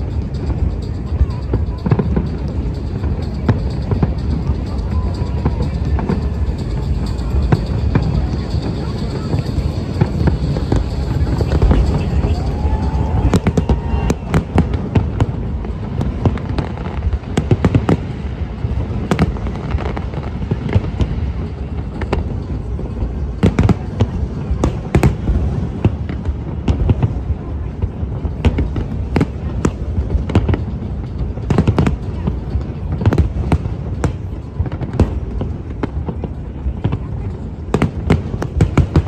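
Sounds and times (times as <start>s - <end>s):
fireworks rumble: 0.0s - 39.0s
fireworks sharp bangs: 0.0s - 39.0s.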